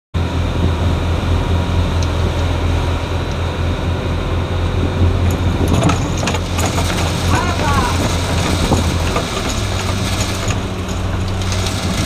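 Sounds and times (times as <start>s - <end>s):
boat engine droning: 0.2s - 12.0s
wind: 0.2s - 12.0s
wake water rushing: 0.9s - 12.0s.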